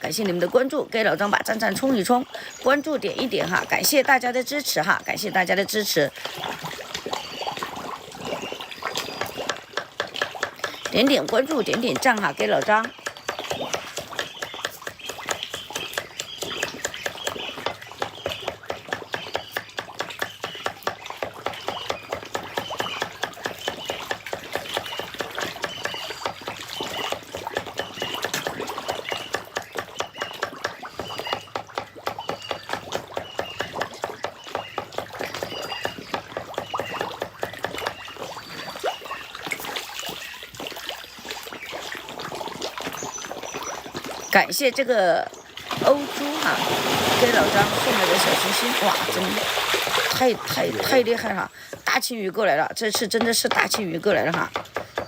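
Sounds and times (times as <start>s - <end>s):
fish splashing in water: 0.0s - 55.0s.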